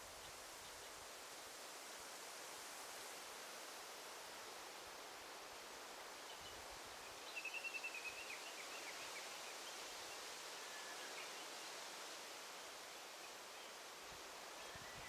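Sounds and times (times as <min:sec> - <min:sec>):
rustling leaves: 0:00.0 - 0:15.0.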